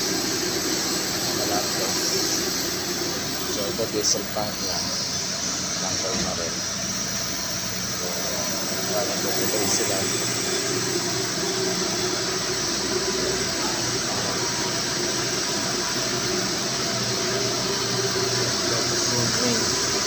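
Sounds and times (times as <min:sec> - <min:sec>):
pump room machinery hum and hiss: 0:00.0 - 0:20.0.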